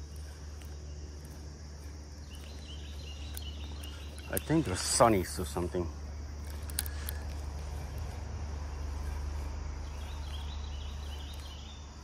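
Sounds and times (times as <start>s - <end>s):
faint high insect drone: 0.0s - 12.0s.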